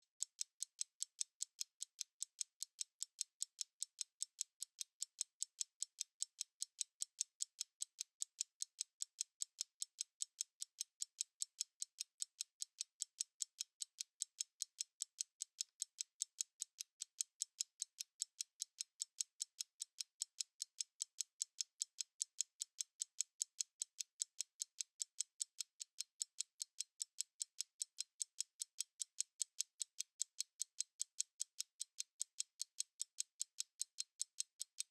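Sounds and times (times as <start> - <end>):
stopwatch ticking: 0.0 - 34.9.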